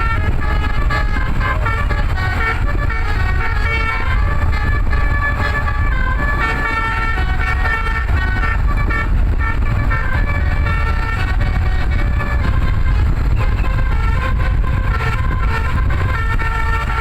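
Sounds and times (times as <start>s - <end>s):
bus horn playing melody: 0.0s - 17.0s
steady low rumble: 0.0s - 17.0s.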